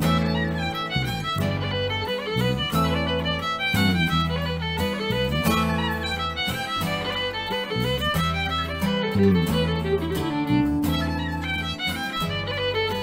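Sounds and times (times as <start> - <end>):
acoustic guitar strumming: 0.0 - 13.0
electric bass line: 0.0 - 13.0
fiddle playing a reel: 0.0 - 13.0.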